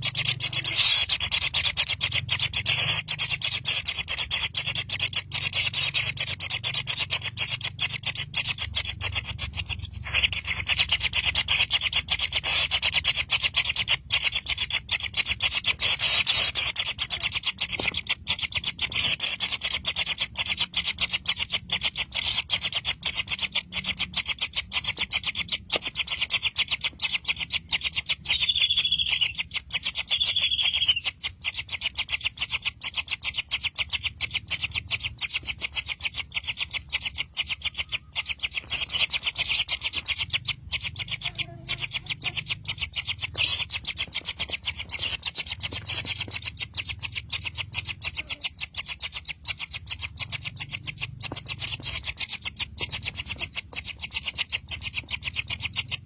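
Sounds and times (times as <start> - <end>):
bird chicks begging chatter: 0.0 - 56.0.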